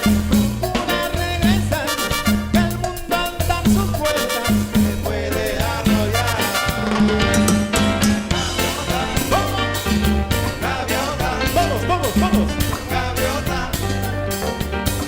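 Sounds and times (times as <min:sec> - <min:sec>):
bass: 0:00.0 - 0:15.0
drum kit and percussion: 0:00.0 - 0:15.0.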